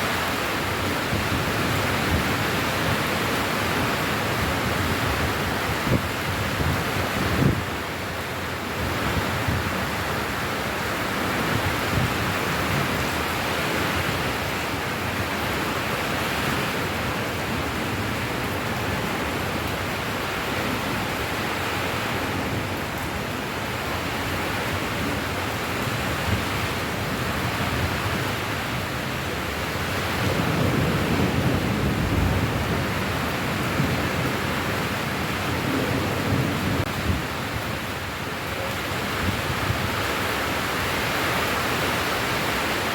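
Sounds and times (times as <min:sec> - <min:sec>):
heavy rain: 0:00.0 - 0:42.9.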